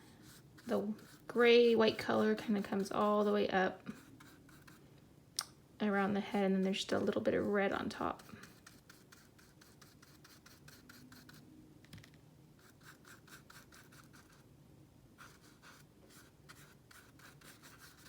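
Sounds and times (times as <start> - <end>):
paintbrush scratching on paper: 0.0 - 4.8, 6.3 - 11.5, 12.6 - 14.4, 15.2 - 18.0.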